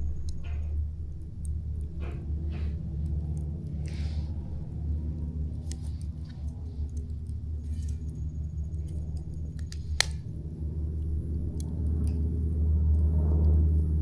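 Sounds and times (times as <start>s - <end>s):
fire popping and snapping: 0.0s - 14.0s
steady low rumble: 0.0s - 14.0s
wood fire crackling: 0.0s - 14.0s.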